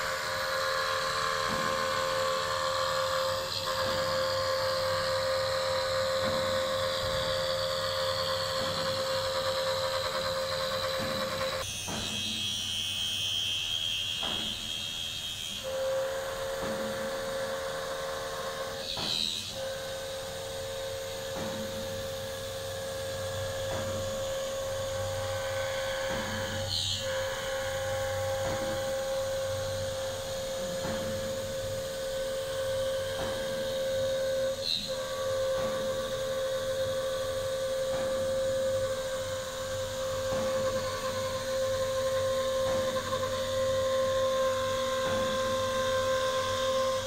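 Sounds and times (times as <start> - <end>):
machine spindle whining: 0.0 - 47.0.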